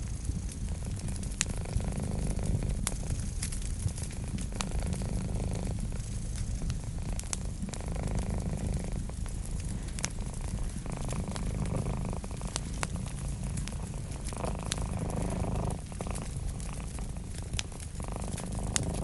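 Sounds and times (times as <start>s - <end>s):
cat purring: 0.0s - 19.0s
wood fire crackling: 0.0s - 19.0s.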